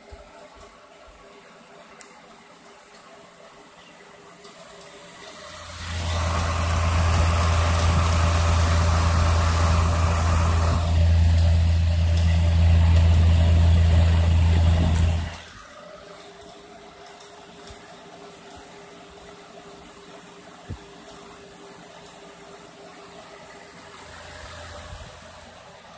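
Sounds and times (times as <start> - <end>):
fan motor humming with air rush: 4.9 - 25.9.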